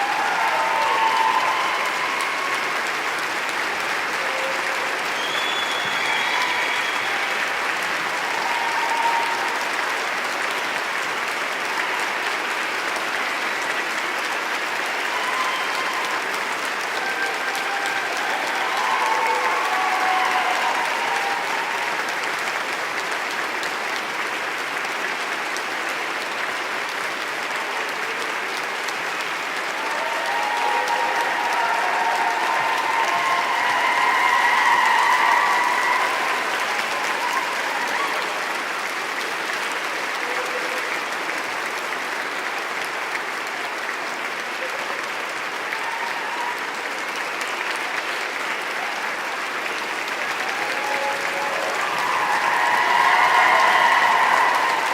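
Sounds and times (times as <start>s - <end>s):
crowd applauding: 0.0s - 54.9s.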